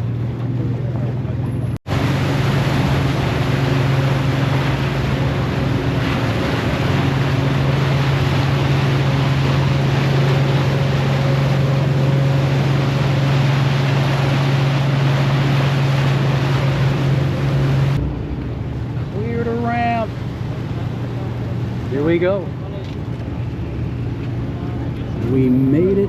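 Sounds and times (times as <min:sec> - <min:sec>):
ferry engine humming: 0:00.0 - 0:26.0
water rushing: 0:01.9 - 0:26.0.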